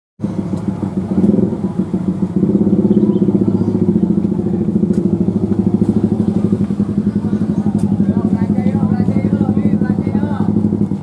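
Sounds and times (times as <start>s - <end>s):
motorcycle engine idling: 0.2s - 11.0s.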